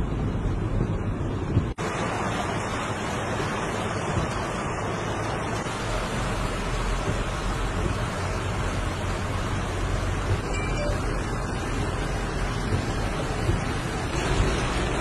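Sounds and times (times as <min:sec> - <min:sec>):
heavy rain: 0:00.0 - 0:15.0
floodwater rushing: 0:01.8 - 0:15.0.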